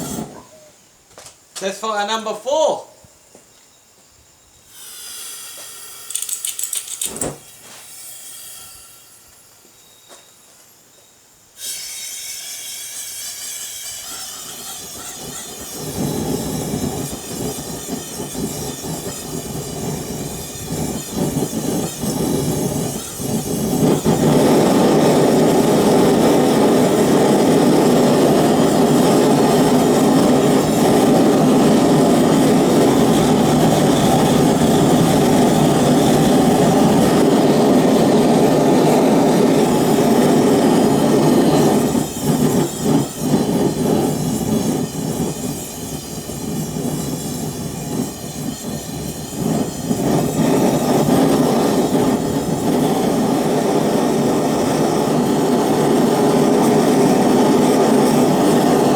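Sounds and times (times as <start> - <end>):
gas burner rumbling: 0.0 - 1.8, 4.7 - 9.8, 11.6 - 58.9
gas hissing: 0.0 - 2.9, 4.6 - 9.8, 11.4 - 58.9.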